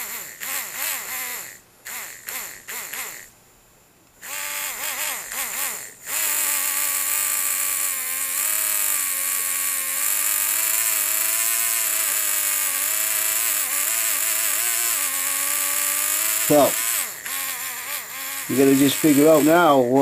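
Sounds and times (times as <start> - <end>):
servo motor whining: 0.0 - 3.3, 4.2 - 20.0.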